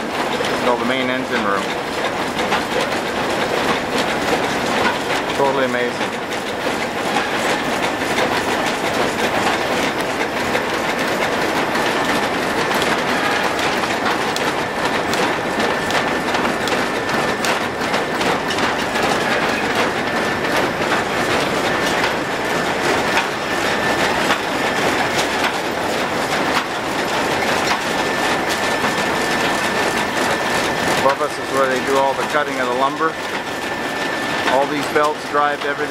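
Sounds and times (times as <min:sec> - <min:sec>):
machinery clatter of rapid ticks: 0:00.0 - 0:35.9.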